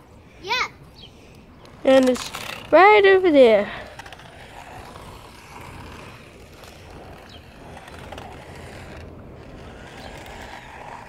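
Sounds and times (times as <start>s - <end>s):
toy car motor whirring: 1.8s - 11.0s.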